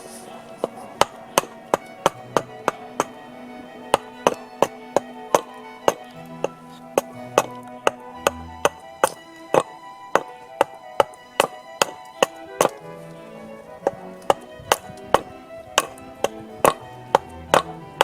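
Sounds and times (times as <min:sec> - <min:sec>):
background music with violin: 0:00.0 - 0:18.0.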